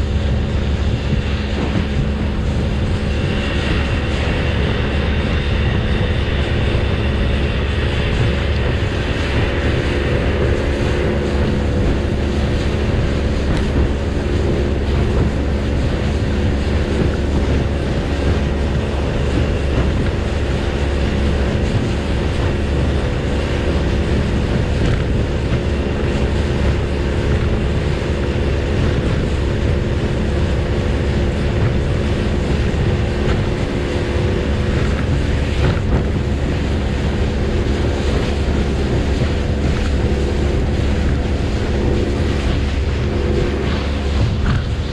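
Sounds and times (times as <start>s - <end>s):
boat engine running: 0.0s - 44.9s
water rushing along hull: 0.0s - 44.9s.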